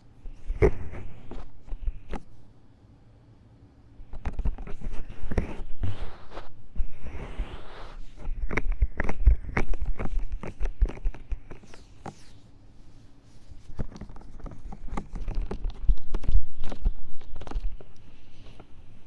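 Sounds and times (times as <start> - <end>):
scratching inside microphone ear: 0.0 - 2.4, 4.0 - 19.0.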